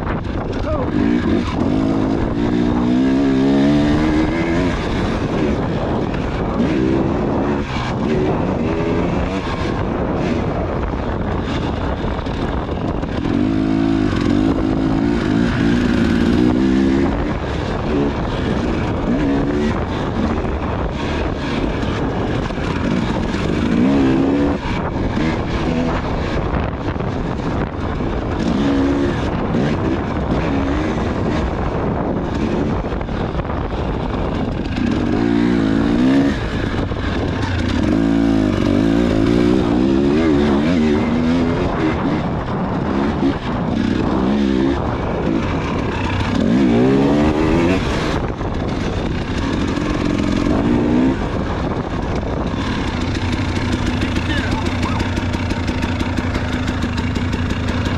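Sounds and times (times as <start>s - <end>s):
motorcycle engine revving: 0.0s - 57.9s
steady rushing noise: 0.0s - 57.9s.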